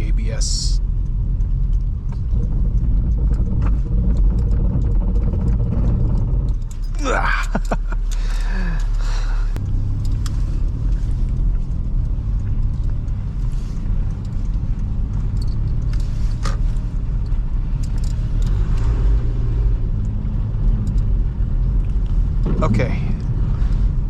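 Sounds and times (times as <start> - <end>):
tyres and engine rumble: 0.0 - 24.0.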